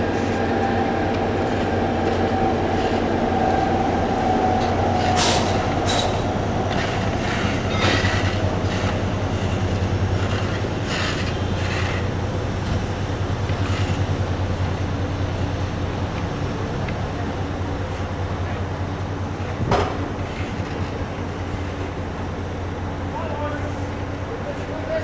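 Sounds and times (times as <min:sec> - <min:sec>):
train low drone: 0:00.0 - 0:25.0.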